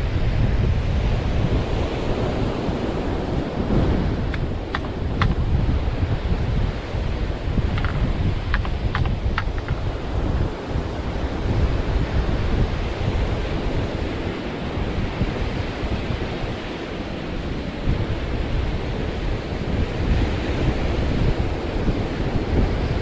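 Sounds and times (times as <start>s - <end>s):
ocean surf washing on beach: 0.0s - 23.0s
wind buffeting microphone: 0.0s - 23.0s.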